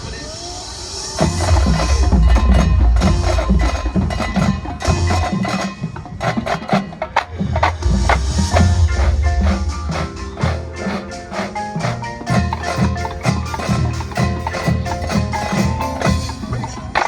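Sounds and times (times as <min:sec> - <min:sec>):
drum and wood block hits: 0:01.2 - 0:17.0
marching band playing: 0:01.2 - 0:17.0.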